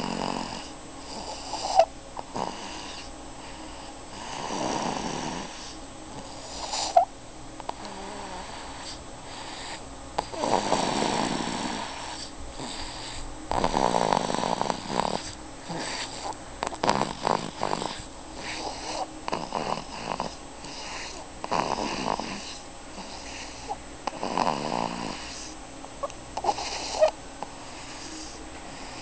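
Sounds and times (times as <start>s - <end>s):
baby snoring: 0.0s - 7.1s, 7.7s - 29.0s.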